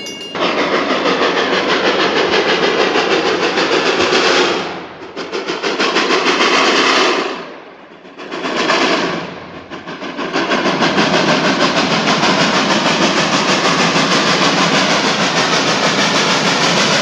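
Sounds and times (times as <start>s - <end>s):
steam locomotive exhaust chuffs: 0.0s - 17.0s.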